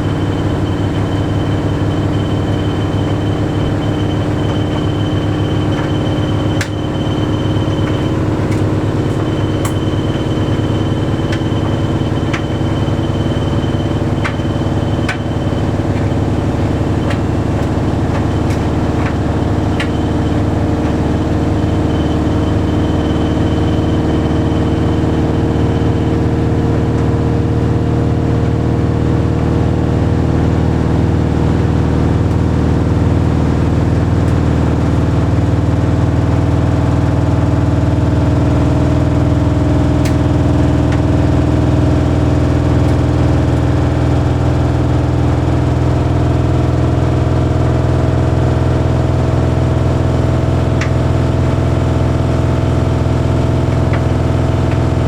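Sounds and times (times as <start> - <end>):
tumble dryer humming: 0.0 - 55.0.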